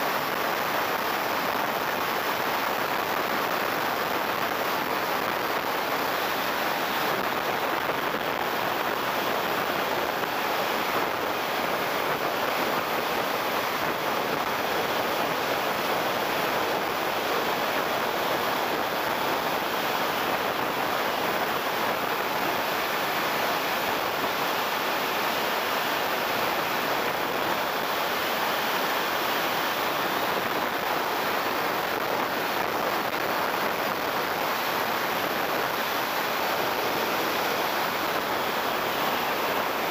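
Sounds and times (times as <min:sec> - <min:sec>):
jet turbine and airflow rush: 0:00.0 - 0:39.9.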